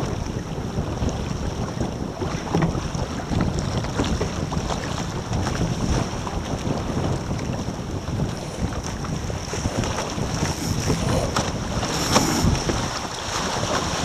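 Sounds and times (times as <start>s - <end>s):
water slapping against hulls: 0.0s - 14.0s
wind buffeting microphone: 0.0s - 14.0s.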